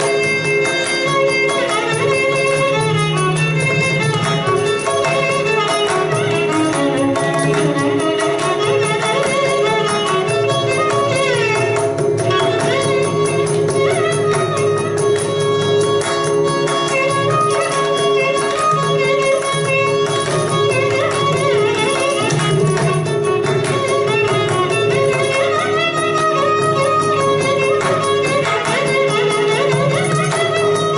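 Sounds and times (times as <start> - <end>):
rapid hand drum strokes: 0.0 - 30.9
violin melody: 0.0 - 30.9.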